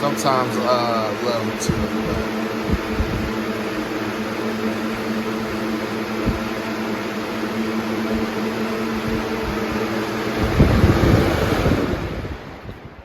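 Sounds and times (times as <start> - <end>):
box fan rushing air: 0.0 - 13.0
low even fan hum: 0.0 - 13.0.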